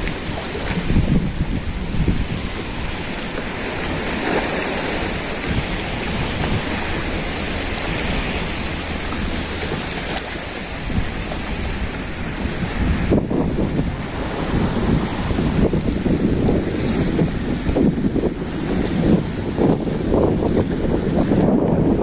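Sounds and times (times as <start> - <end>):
small waves lapping: 0.0 - 21.5
wind buffeting microphone: 0.0 - 22.0.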